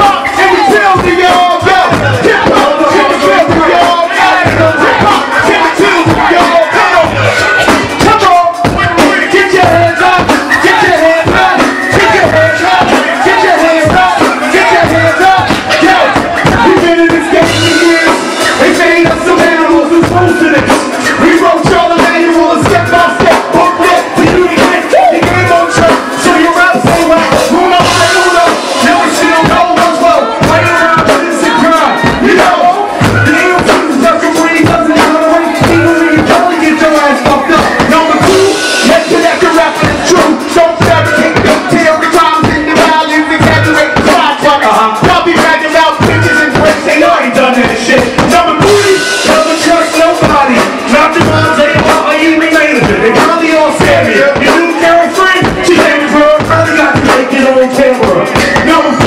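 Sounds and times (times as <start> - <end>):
hip-hop beat through pa: 0.0 - 59.0
rapping into microphones: 0.0 - 59.0.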